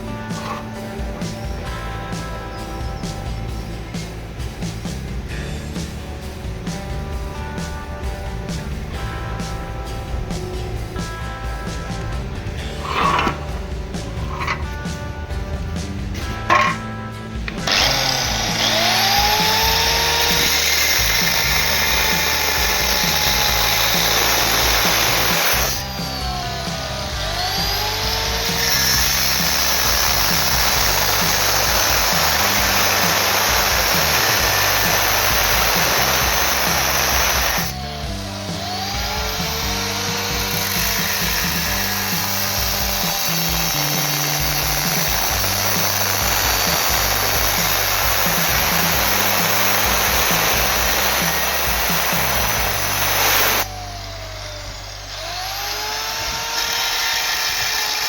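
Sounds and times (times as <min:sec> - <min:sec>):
power tool on steel: 0:00.0 - 0:07.7, 0:12.4 - 0:15.0, 0:16.2 - 0:58.0
background music: 0:00.0 - 0:58.0.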